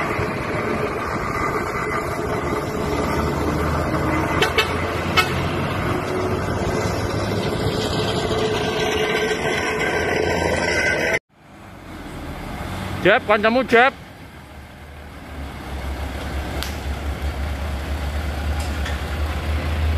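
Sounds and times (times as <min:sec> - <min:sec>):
diesel truck passing by: 0:00.0 - 0:19.9.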